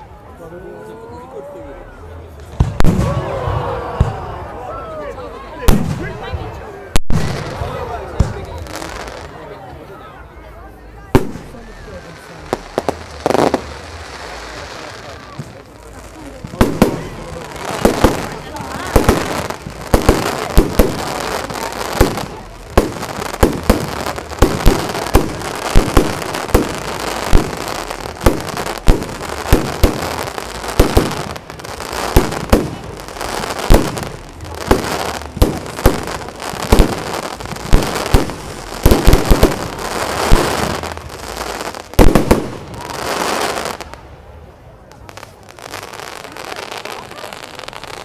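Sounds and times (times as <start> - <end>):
fireworks crackle: 1.8 - 4.2, 5.6 - 9.8, 11.1 - 48.0
fireworks banging: 2.4 - 4.4, 5.6 - 9.4, 11.1 - 44.0.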